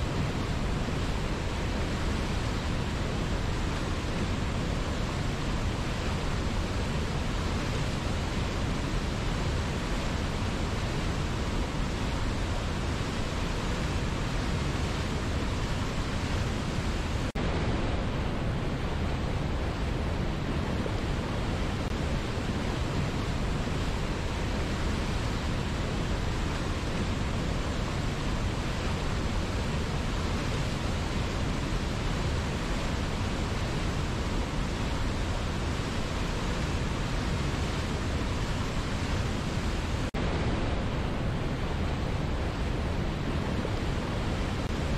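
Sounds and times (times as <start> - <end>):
waterfall and rapids roaring: 0.0 - 44.9.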